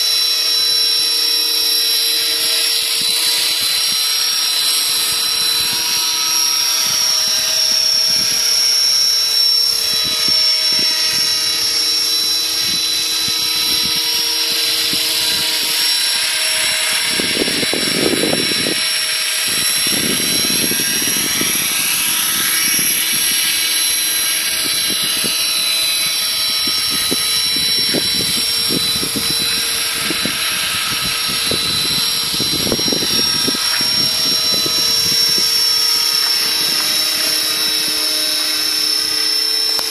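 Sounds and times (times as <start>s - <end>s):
model helicopter whine: 0.0s - 39.9s
wind on microphone: 2.4s - 39.9s.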